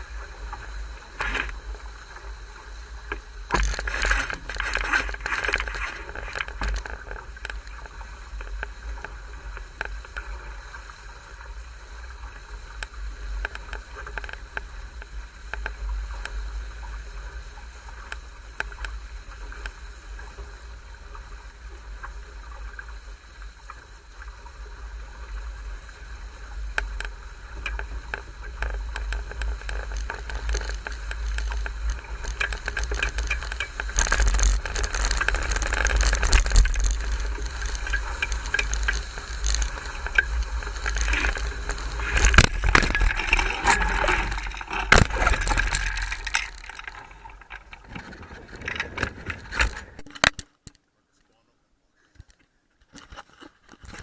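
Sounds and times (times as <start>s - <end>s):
water rushing along a boat hull: 0.0s - 50.3s
small splashes and ticks: 0.0s - 50.8s.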